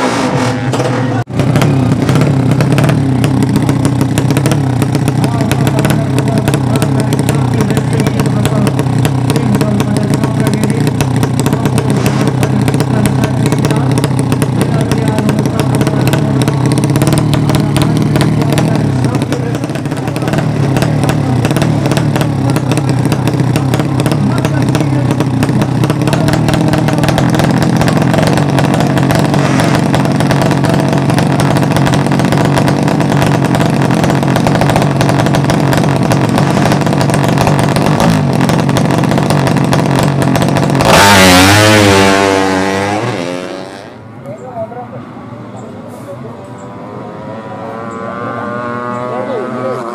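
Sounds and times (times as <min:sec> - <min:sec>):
racing motorcycle engines: 0:00.0 - 0:49.9.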